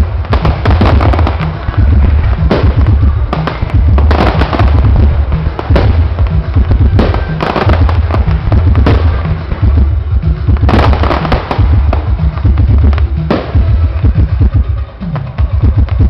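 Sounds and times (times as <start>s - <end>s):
fireworks bangs: 0.0s - 14.4s
fireworks crackling: 0.0s - 16.0s.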